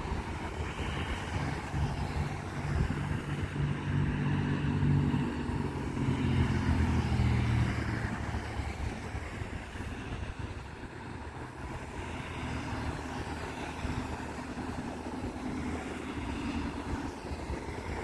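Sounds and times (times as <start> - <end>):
cars passing: 0.0 - 18.0
wind rumble on microphone: 0.0 - 18.0.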